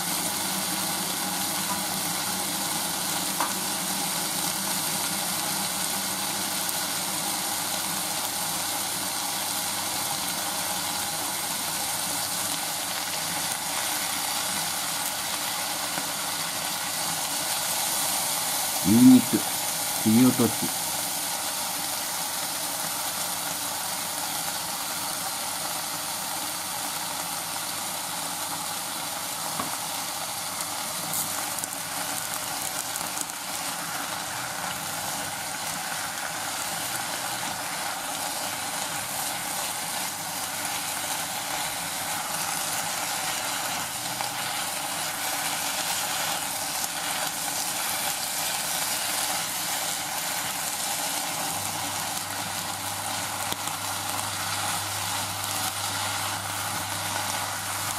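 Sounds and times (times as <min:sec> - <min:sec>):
food sizzling in saucepan: 0:00.0 - 0:57.9.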